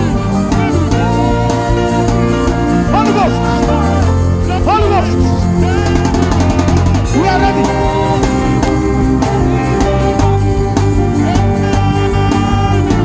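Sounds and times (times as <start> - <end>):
person singing: 0.0 - 13.0
steady drum beat: 0.0 - 13.0
worship band music: 0.0 - 13.0.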